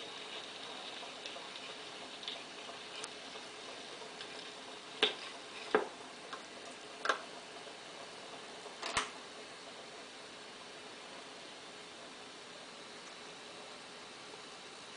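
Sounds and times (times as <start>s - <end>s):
record needle hiss: 0.0s - 14.9s.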